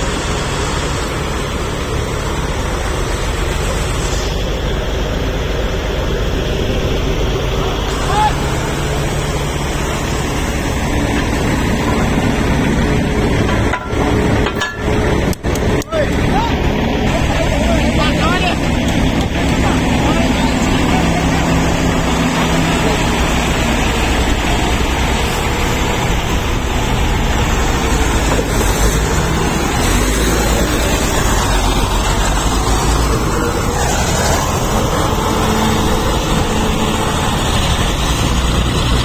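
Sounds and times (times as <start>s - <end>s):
diesel engine running loudly: 0.0s - 39.0s.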